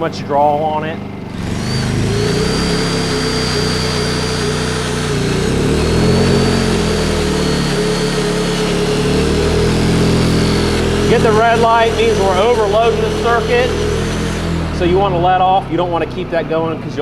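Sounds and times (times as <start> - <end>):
generator engine labouring: 0.0 - 17.0
steady whine: 0.0 - 17.0.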